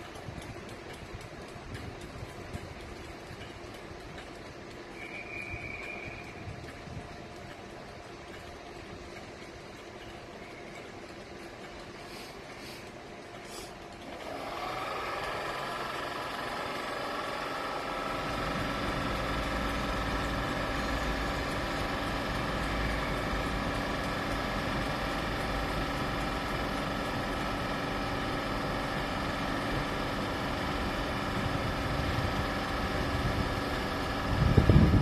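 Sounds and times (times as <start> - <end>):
electric locomotive hum: 0.0 - 35.0.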